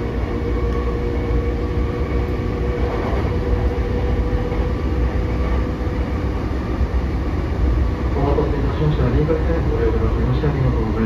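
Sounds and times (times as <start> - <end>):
steady hum: 0.0 - 11.0
train wheels rumbling on rails: 0.0 - 11.0.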